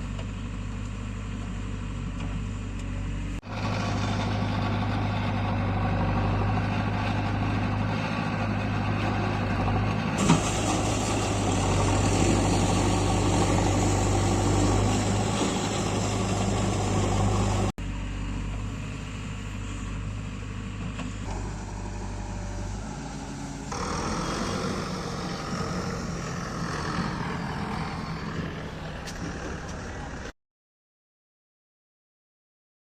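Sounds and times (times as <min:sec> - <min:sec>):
diesel engine running: 0:00.0 - 0:30.4.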